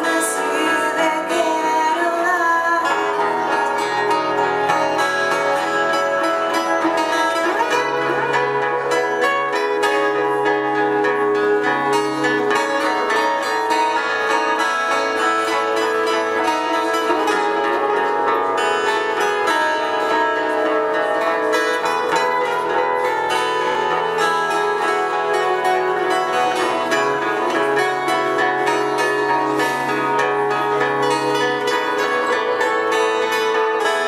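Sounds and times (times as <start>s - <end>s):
plucked strings: 0.0s - 34.0s
live band playing instrumental: 3.1s - 34.0s.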